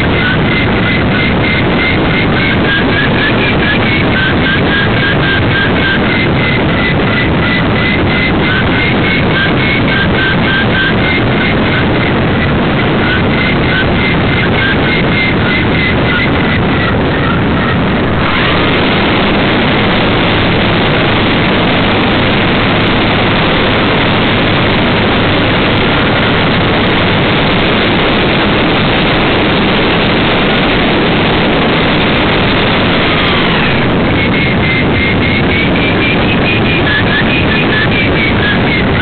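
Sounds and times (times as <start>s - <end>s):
airplane engine and propeller: 0.0s - 39.0s
loud wind rush: 0.0s - 39.0s.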